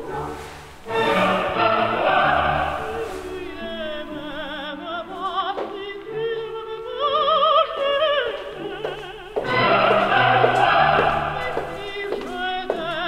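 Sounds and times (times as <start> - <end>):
operatic singing with vibrato: 0.0 - 13.0.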